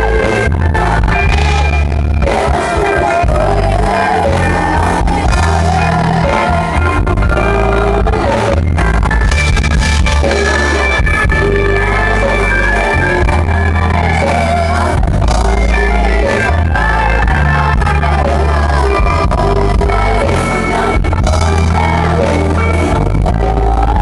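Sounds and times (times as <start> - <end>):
woman singing: 0.0 - 8.6, 10.4 - 24.0
heavy bass line: 0.0 - 24.0
pop-rock band playing: 0.0 - 24.0.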